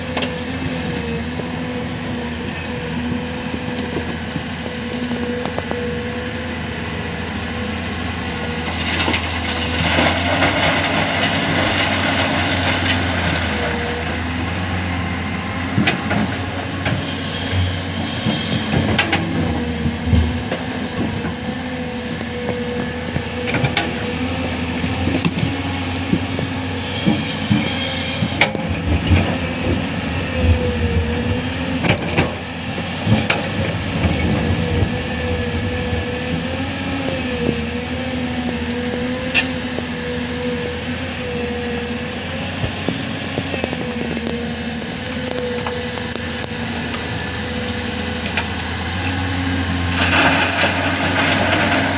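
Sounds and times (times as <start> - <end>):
excavator diesel engine whining: 0.0 - 51.9.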